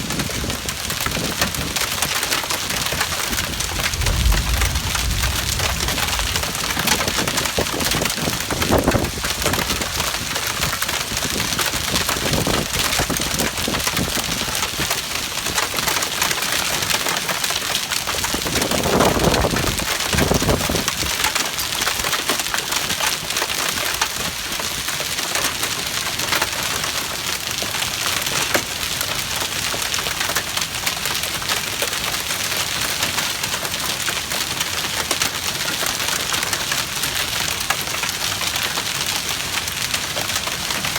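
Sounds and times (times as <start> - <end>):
hailstones clattering: 0.0 - 40.9.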